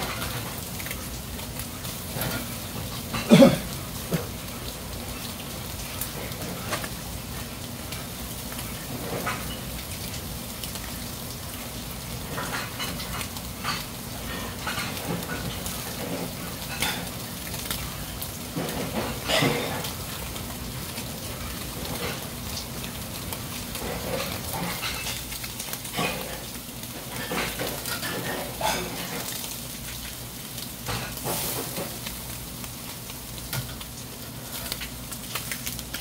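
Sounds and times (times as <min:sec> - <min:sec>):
fish sizzling on charcoal grill: 0:00.0 - 0:36.0.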